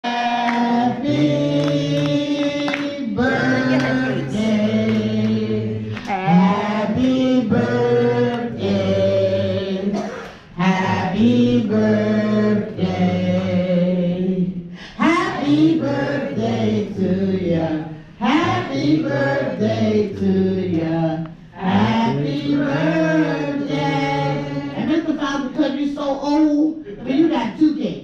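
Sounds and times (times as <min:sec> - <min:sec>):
group singing a birthday song: 0:00.0 - 0:25.8.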